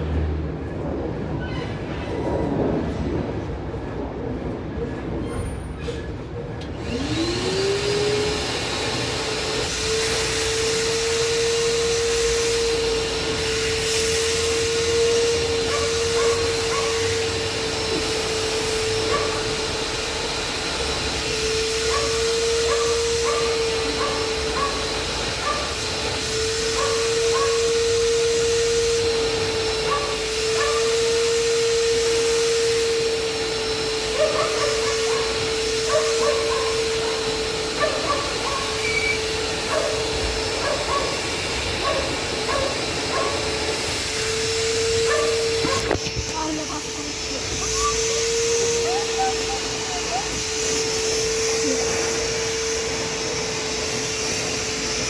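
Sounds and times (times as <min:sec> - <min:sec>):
washing machine motor whining: 0:06.5 - 0:55.0.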